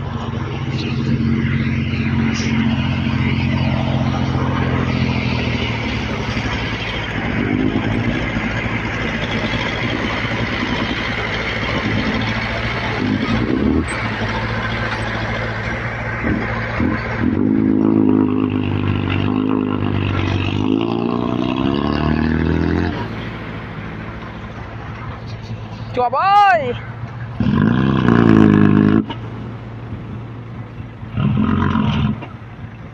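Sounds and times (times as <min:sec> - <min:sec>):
diesel truck engine revving: 0:00.0 - 0:32.9.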